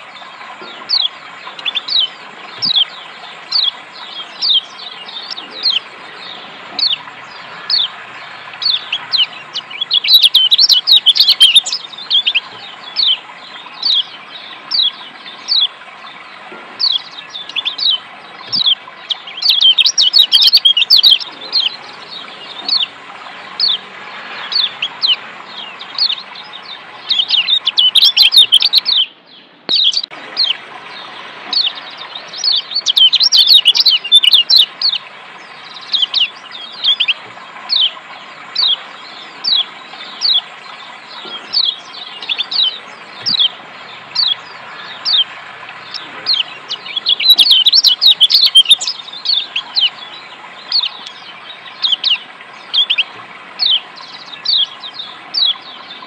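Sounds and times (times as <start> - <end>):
running water hiss: 0.0 - 56.0
bird chipping and chattering: 0.6 - 15.7, 16.8 - 29.1, 31.5 - 40.5, 41.1 - 56.0.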